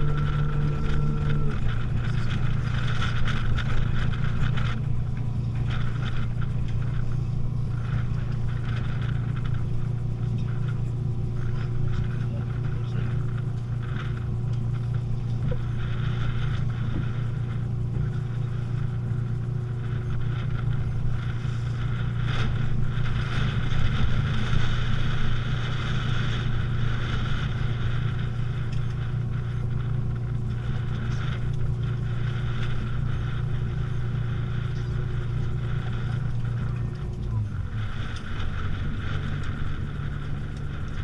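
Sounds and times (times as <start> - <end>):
boat engine running: 0.0 - 41.0
strong wind noise: 0.0 - 41.0.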